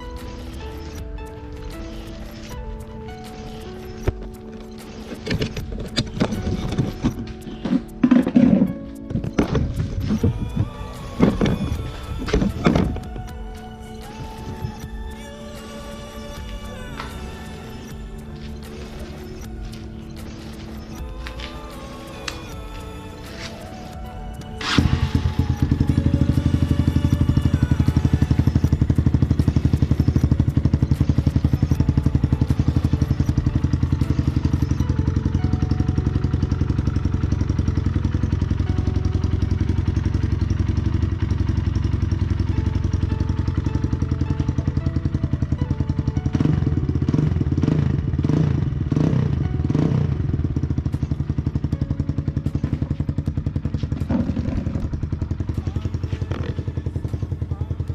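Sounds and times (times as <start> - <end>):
motorcycle engine idling loudly: 5.1 - 57.9.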